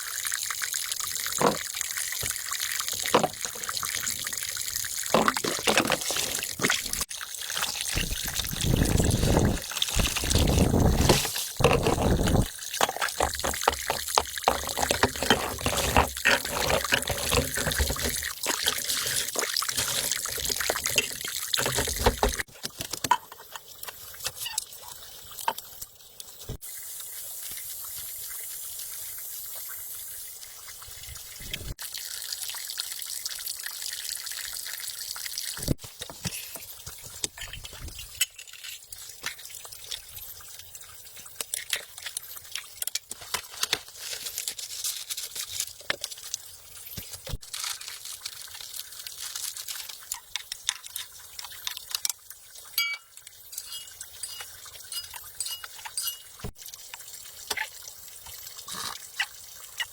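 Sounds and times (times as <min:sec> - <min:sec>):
water pouring: 0:00.0 - 0:59.9
water trickling and splashing: 0:00.0 - 0:59.9.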